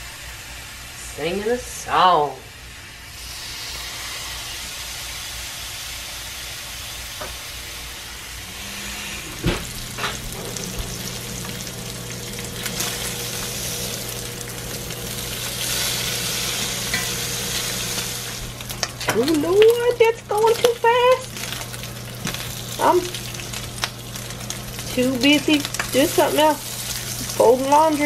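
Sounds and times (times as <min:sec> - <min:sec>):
bacon sizzling in a skillet: 0:02.8 - 0:28.0.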